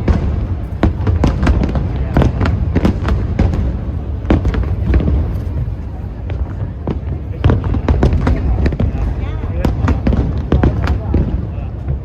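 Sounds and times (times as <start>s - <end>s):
fireworks bangs and crackles: 0.0s - 12.0s
low rumble of distant bursts: 0.0s - 12.0s.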